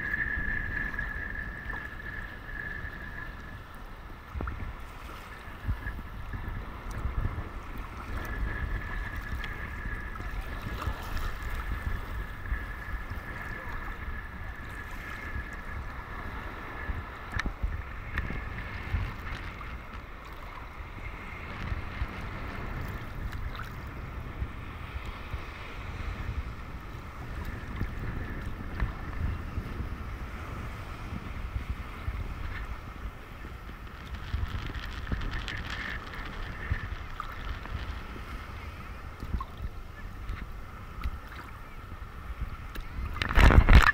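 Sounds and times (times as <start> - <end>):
small waves lapping: 0.0 - 43.9
wind buffeting microphone: 0.0 - 43.9.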